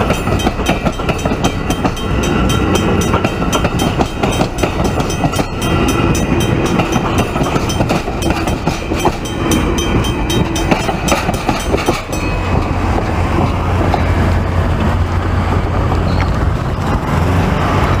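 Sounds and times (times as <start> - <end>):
train low rumble: 0.0 - 18.0
train wheels clicking over rail joints: 0.0 - 18.0.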